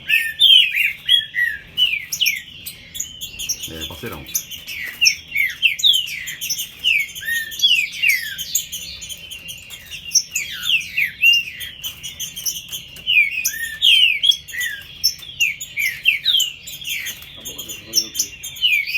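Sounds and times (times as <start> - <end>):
birds singing whistled phrases: 0.0 - 18.9.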